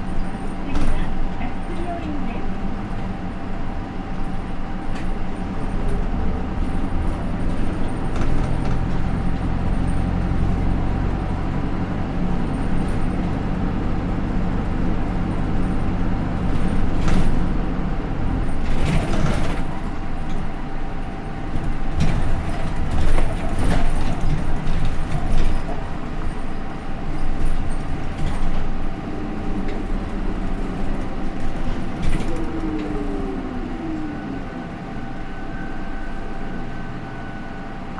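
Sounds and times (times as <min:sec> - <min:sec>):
bus diesel engine pulling: 0:00.0 - 0:37.9.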